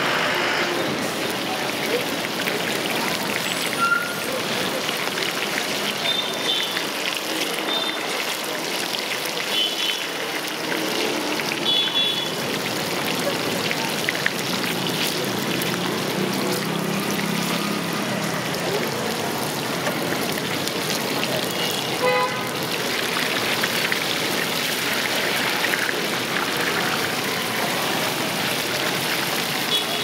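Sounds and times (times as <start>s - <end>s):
oil sizzling and bubbling: 0.0s - 30.0s.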